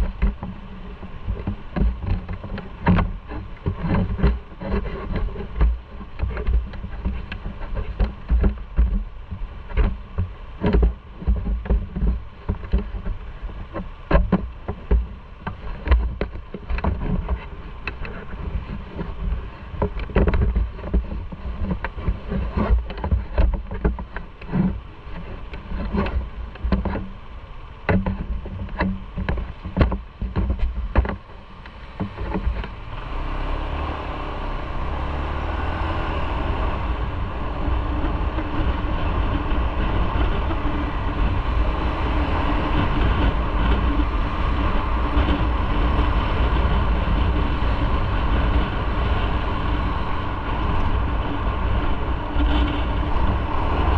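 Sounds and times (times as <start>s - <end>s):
motorcycle engine rumble: 0.0s - 53.9s
steady rushing noise: 0.0s - 53.9s
wind buffeting microphone: 0.0s - 53.9s.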